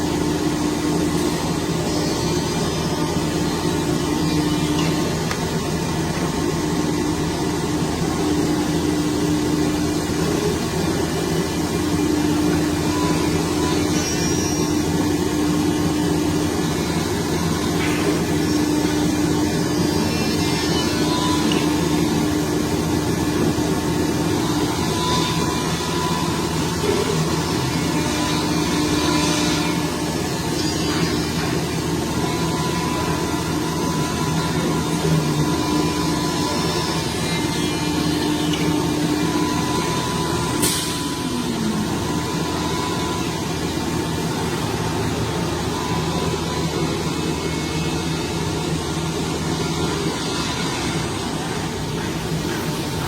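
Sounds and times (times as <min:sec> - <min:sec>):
machine humming: 0:00.0 - 0:53.0.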